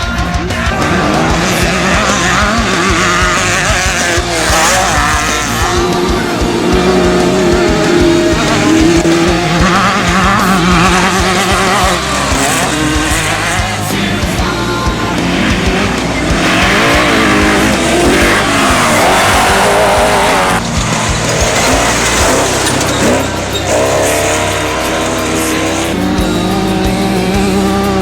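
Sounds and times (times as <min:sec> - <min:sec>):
background music with bass: 0:00.0 - 0:28.0
race vehicle engines revving: 0:00.0 - 0:28.0.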